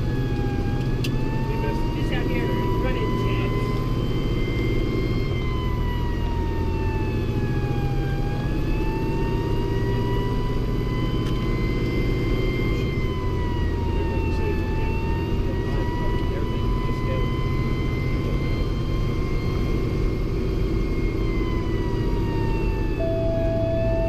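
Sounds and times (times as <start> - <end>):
fire engine rumbling: 0.0 - 24.0
fire engine siren: 0.0 - 24.0.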